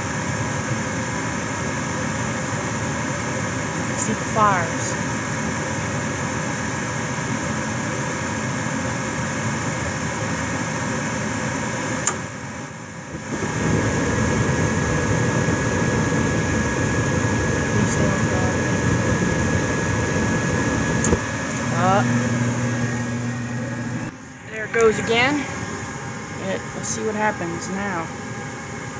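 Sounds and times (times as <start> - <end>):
faint high whine: 0.0 - 28.9
gas furnace fan and burner: 0.0 - 28.9.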